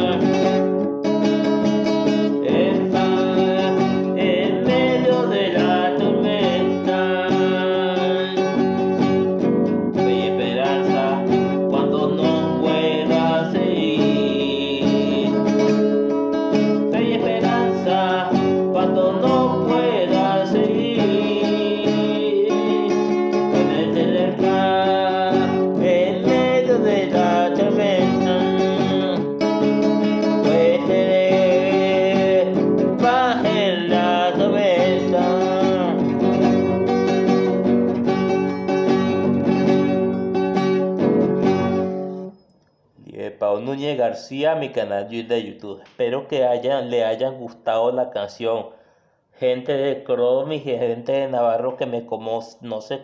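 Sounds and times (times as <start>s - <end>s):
acoustic guitar song: 0.0s - 53.0s.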